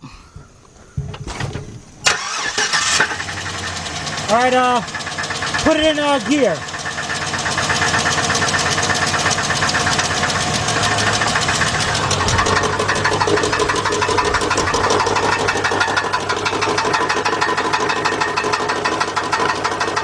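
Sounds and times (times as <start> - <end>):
engine running with rapid knocking: 2.1 - 20.0.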